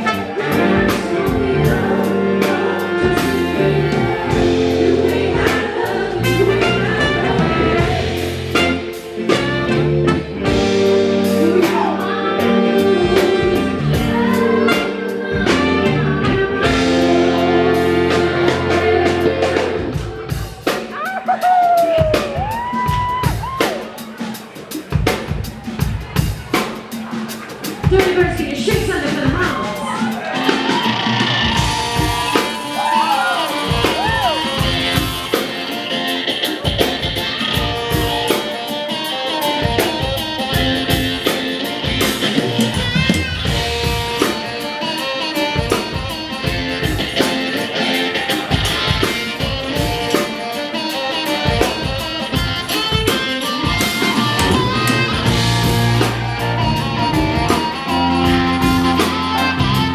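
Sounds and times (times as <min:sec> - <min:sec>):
electric guitar: 0:00.0 - 0:24.3, 0:27.0 - 0:59.9
live rock band playing: 0:00.0 - 0:59.9.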